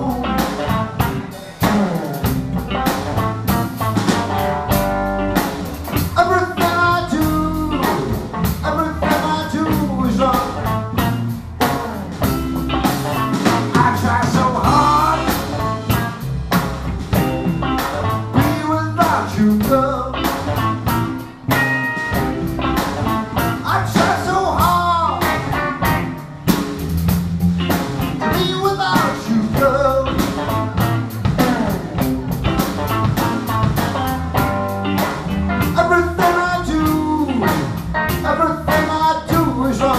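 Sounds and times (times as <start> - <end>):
lead guitar bending notes: 0.0 - 18.6, 19.8 - 39.9
blues band playing: 0.0 - 39.9.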